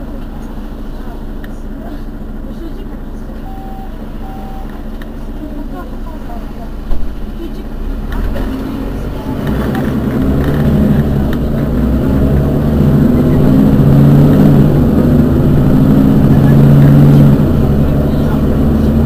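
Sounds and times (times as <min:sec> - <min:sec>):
bus engine humming: 0:00.0 - 0:19.0.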